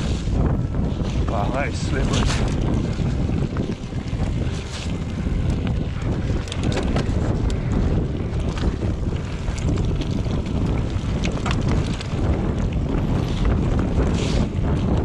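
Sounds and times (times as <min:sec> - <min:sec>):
bike rattling over ground: 0:00.0 - 0:15.0
wind rumbling on microphone: 0:00.0 - 0:15.0.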